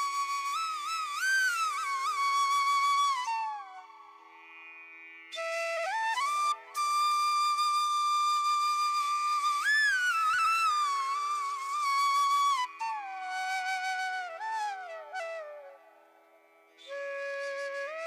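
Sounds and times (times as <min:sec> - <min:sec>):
flute playing slow melody: 0:00.0 - 0:04.4, 0:05.3 - 0:18.0.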